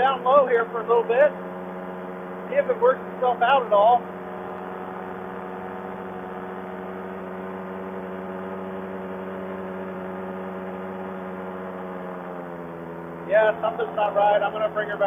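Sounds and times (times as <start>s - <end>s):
two-stroke paramotor engine running: 0.0s - 15.0s.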